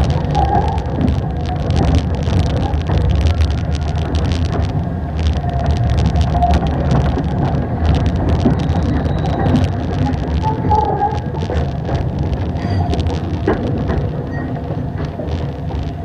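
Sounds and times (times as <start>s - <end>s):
small clicks and rattles: 0.0s - 16.0s
train wheels rumbling: 0.0s - 16.0s.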